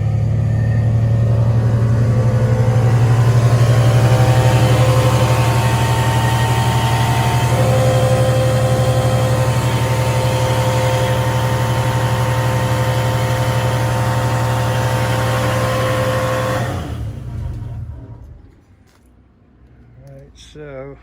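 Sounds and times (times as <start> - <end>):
carpet cleaning machine droning: 0.0 - 18.3.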